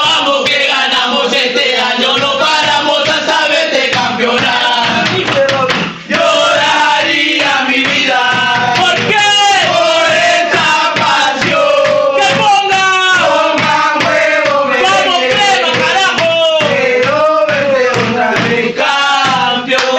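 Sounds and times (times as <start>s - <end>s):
men chanting in unison: 0.0s - 19.9s
steady drum beat: 0.0s - 19.9s.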